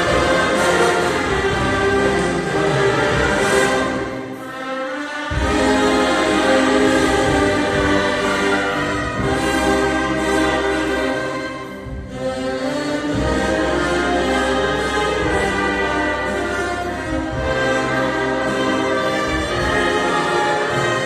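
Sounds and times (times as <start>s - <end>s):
choir singing: 0.0s - 21.0s
orchestra playing a hymn: 0.0s - 21.0s.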